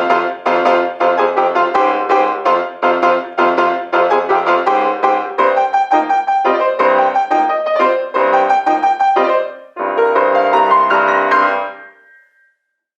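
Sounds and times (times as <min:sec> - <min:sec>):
fast piano dance piece: 0:00.0 - 0:12.2.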